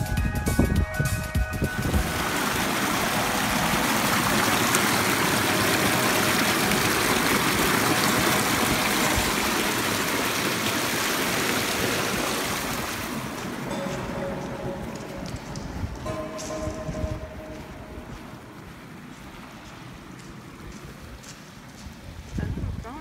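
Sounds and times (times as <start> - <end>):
stream rushing over rocks: 1.8 - 22.2.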